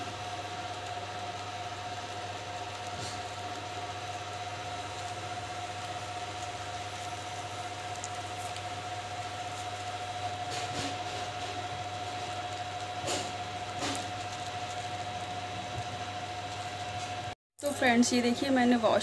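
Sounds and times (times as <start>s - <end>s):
steady low hum: 0.0s - 19.0s
thin steady whine: 0.0s - 19.0s.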